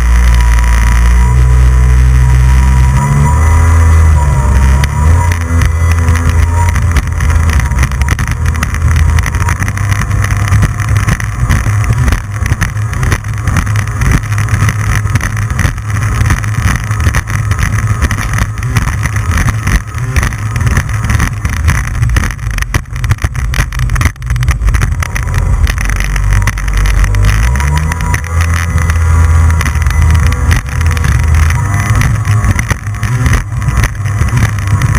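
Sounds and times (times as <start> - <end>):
jet ski engine drone: 0.0 - 34.9.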